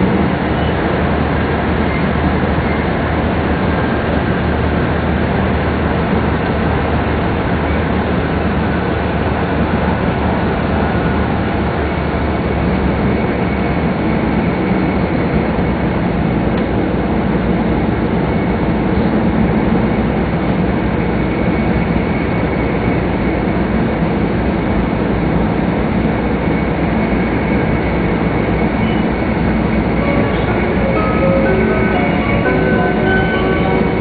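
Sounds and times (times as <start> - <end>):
train running rumble and rush: 0.0 - 34.0.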